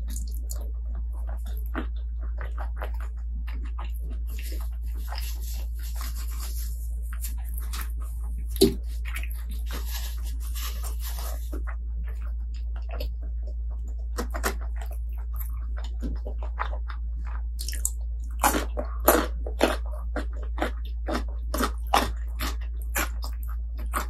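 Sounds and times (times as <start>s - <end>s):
person chewing crunchy food: 0.0s - 24.0s
steady low hum: 0.0s - 24.0s.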